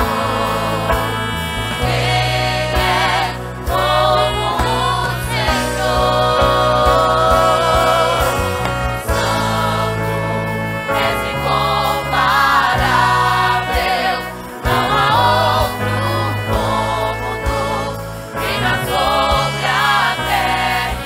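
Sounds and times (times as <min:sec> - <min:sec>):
band with saxophones and trumpets: 0:00.0 - 0:21.0
choir singing a hymn: 0:00.0 - 0:21.0.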